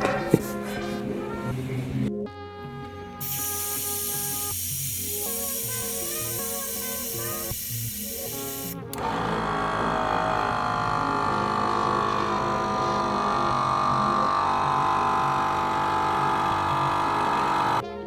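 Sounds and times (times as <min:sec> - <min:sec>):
motor running: 0:03.2 - 0:17.8.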